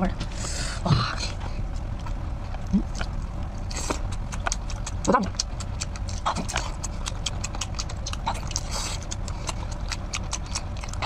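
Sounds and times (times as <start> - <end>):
low steady hum: 0.0 - 11.0
wet chewing mouth sounds: 1.0 - 11.0.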